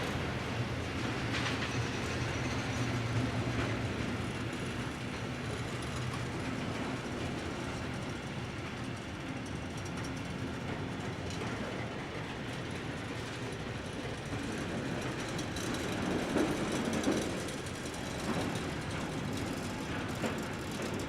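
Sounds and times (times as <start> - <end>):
train wagons rolling on rails: 0.0 - 21.0.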